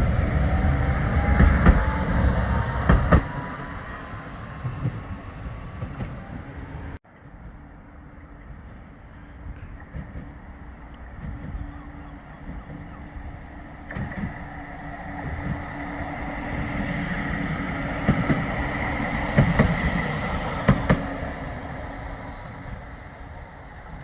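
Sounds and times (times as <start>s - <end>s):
wheels clicking over rail: 0.0s - 7.0s, 9.7s - 24.0s
tram running noise: 0.0s - 24.0s.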